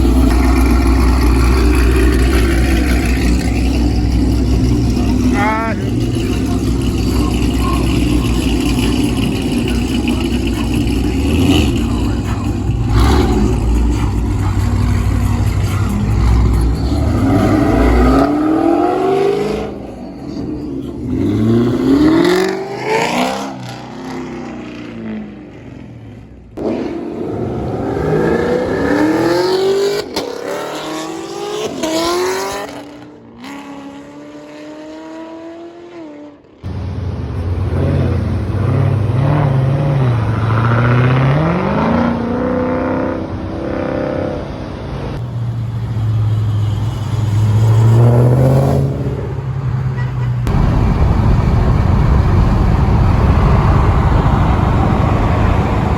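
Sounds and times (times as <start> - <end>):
car engines revving: 0.0 - 55.9.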